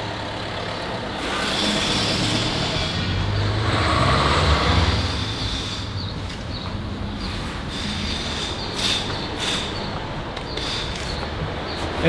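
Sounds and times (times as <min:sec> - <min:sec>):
engine running low rumble: 0:00.0 - 0:12.0.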